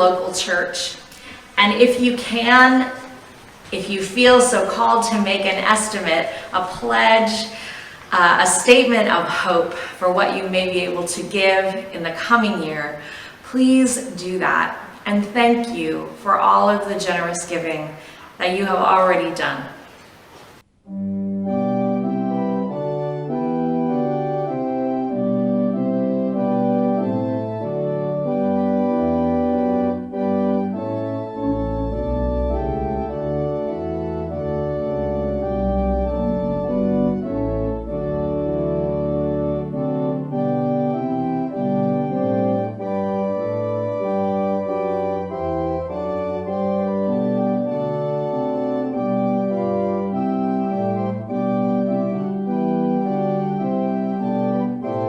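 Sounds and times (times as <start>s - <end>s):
organ music: 0.0s - 55.0s.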